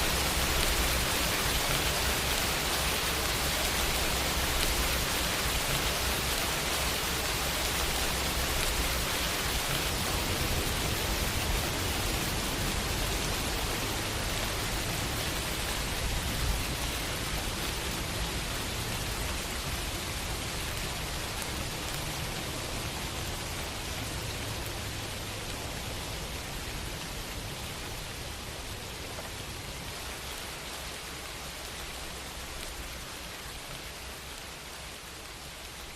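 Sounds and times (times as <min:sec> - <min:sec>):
rain pattering on a window: 0:00.0 - 0:35.9.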